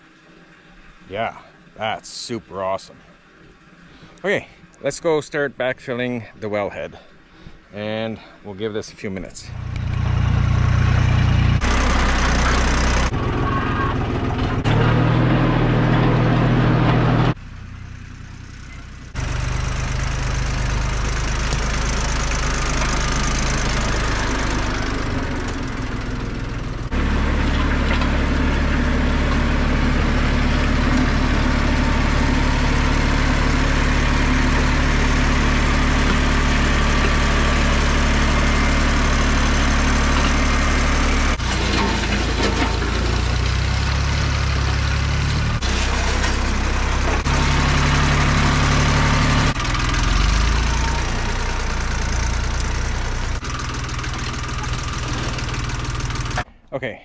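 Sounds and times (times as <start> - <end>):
tractor diesel engine running: 7.8 - 56.5
loader pushing dirt: 9.5 - 56.5.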